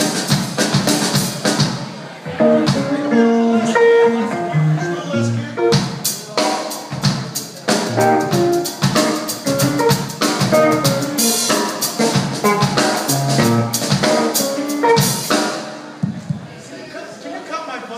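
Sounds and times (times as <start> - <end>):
live rock band playing: 0.0 - 16.0
drum kit: 0.0 - 16.5.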